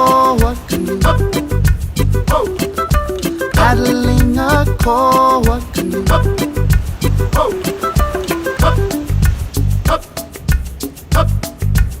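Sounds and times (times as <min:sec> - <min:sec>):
instrumental music with bass and percussion: 0:00.0 - 0:12.0.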